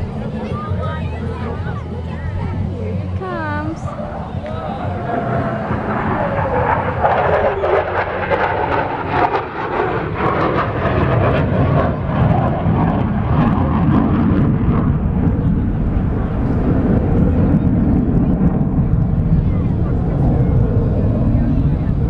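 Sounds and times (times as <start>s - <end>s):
airplane flying past: 0.0s - 22.0s.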